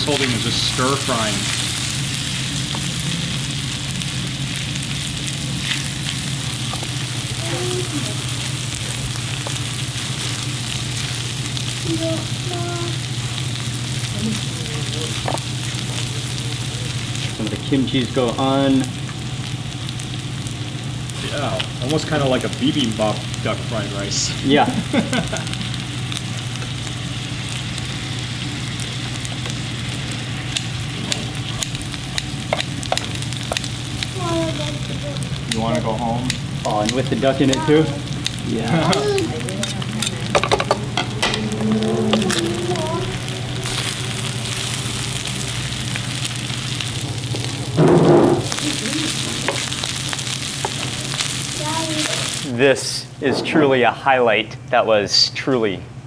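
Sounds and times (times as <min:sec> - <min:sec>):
rice sizzling in a metal pan: 0:00.0 - 0:53.0
steady low hum: 0:00.0 - 0:55.1.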